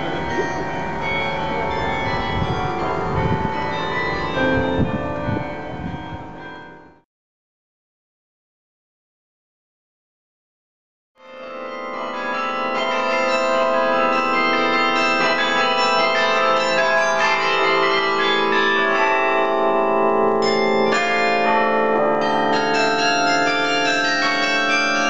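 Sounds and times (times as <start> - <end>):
carillon bells ringing: 0.0 - 7.0, 11.2 - 25.0.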